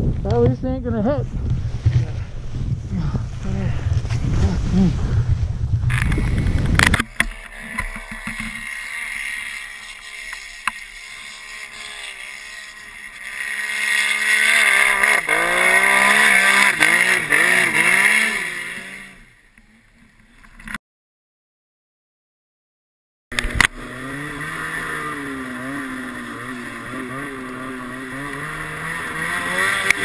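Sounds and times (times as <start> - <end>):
snowmobile engine revving: 1.7 - 20.0, 23.4 - 30.0.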